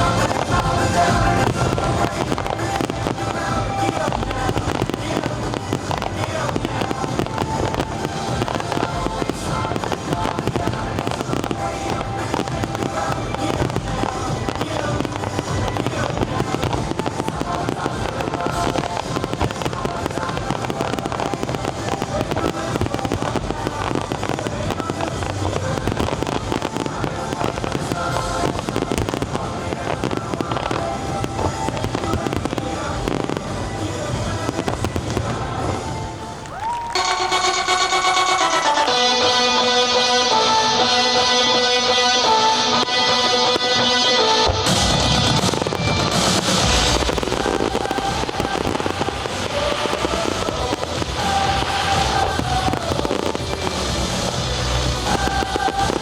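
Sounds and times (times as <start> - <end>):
fireworks banging and crackling: 0.0 - 56.0
music soundtrack: 0.0 - 56.0.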